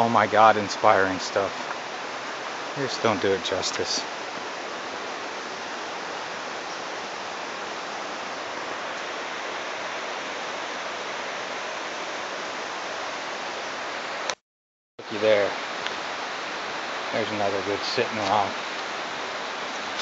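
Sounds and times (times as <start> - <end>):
stream water rushing: 0.0 - 14.4, 15.0 - 20.0.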